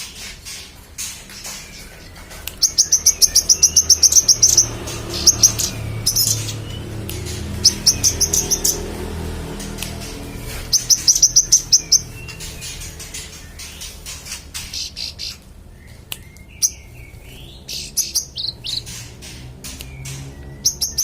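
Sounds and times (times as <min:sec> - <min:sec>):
songbird trilling: 0:00.4 - 0:21.0.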